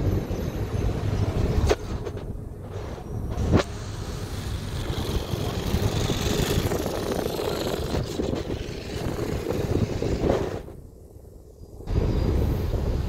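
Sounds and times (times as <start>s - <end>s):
bus engine hum: 0.0s - 13.0s
road traffic: 0.0s - 13.0s
wind buffeting microphone: 0.0s - 13.0s.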